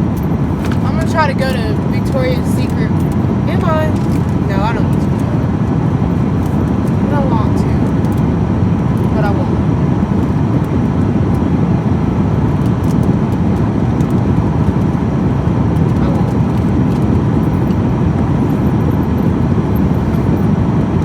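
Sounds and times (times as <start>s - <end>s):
road noise inside moving car: 0.0s - 21.0s.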